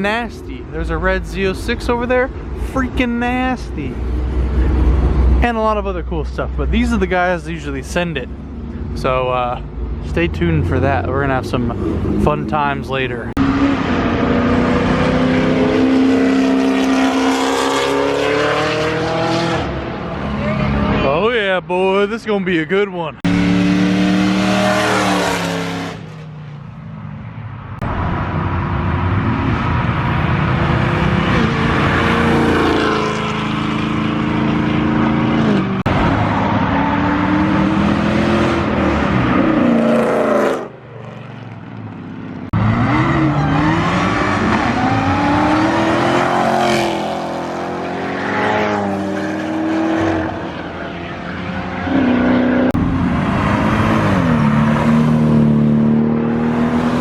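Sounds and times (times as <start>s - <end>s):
car engines revving and passing: 0.0s - 22.6s, 23.2s - 57.0s.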